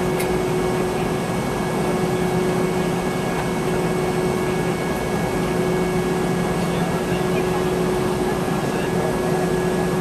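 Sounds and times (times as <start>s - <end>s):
airliner cabin hum and hiss: 0.0s - 10.0s.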